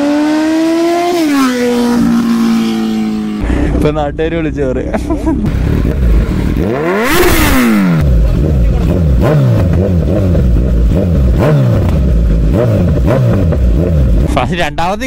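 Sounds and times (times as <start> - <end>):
motorcycle engine revving: 0.0 - 4.0, 5.4 - 14.6.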